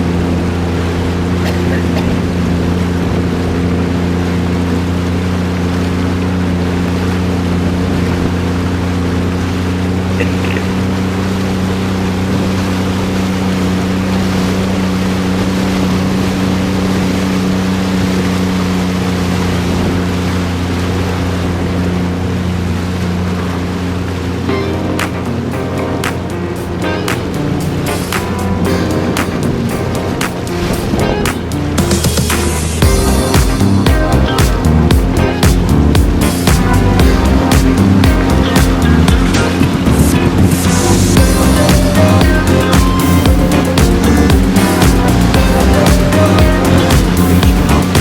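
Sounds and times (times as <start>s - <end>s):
jet ski engine running: 0.0s - 48.0s
rush of water and wind: 0.0s - 48.0s.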